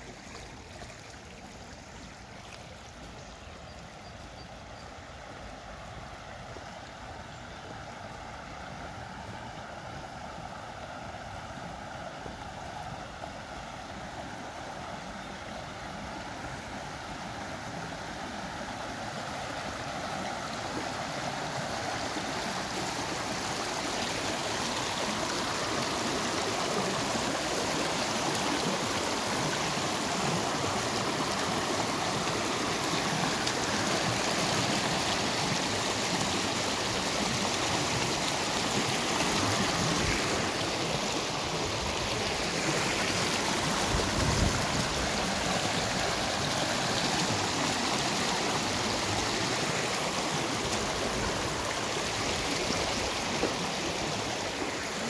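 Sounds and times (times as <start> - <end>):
brook rippling: 0.0 - 55.0.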